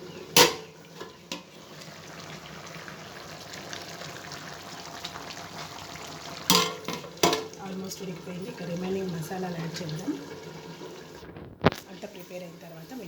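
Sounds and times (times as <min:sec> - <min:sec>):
curry simmering and bubbling: 0:00.0 - 0:13.0.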